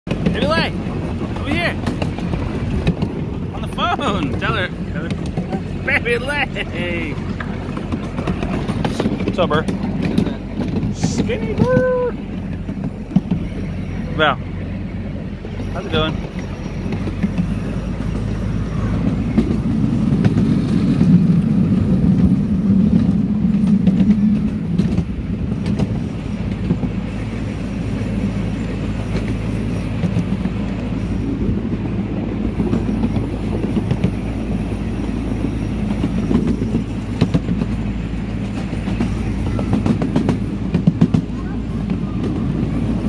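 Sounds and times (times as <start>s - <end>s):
small train rumbling on track: 0.0s - 43.0s.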